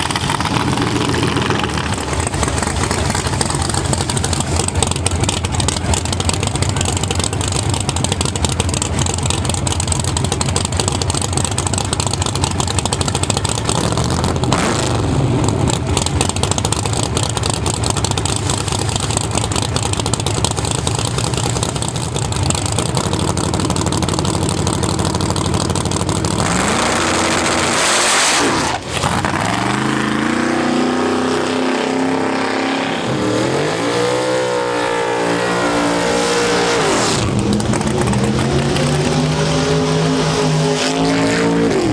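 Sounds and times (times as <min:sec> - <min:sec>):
drag-racing engine revving: 0:00.0 - 0:41.9.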